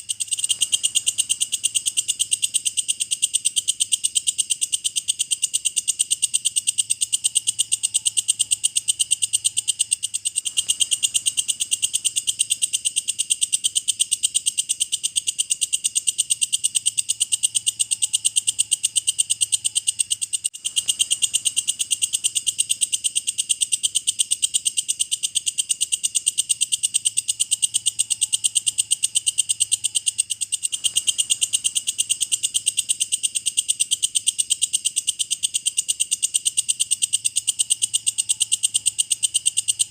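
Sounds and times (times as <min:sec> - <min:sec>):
insect ticking trill: 0:00.0 - 0:39.9.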